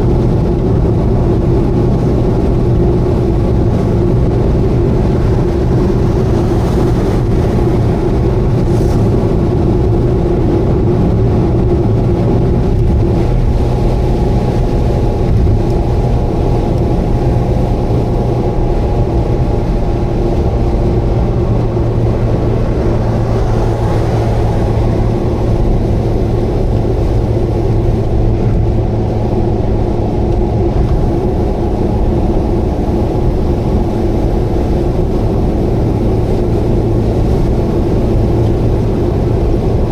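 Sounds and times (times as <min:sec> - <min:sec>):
car engine cruising: 0:00.0 - 0:39.9
road noise inside car: 0:00.0 - 0:39.9.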